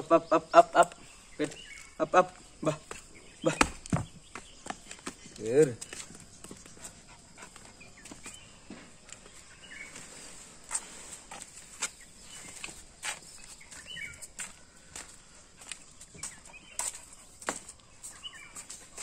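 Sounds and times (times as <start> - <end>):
clog footsteps on concrete: 0.9 - 19.0.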